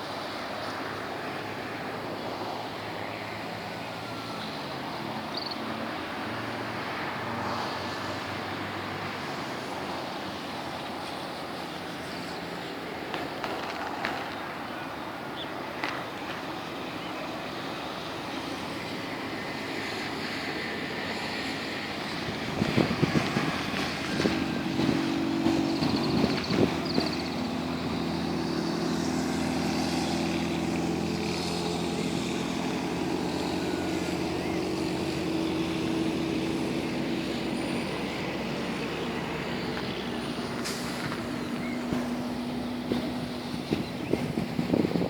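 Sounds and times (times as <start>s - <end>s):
city street noise: 0.0s - 45.0s
large vehicle engine running: 0.0s - 45.0s.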